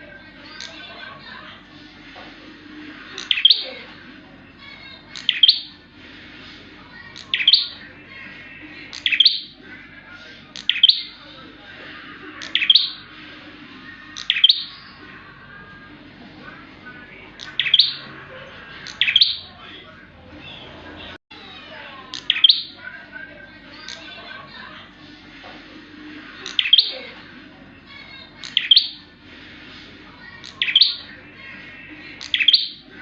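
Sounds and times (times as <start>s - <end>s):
faint bird chirping: 2.8s - 25.4s, 26.0s - 29.1s, 30.2s - 33.0s.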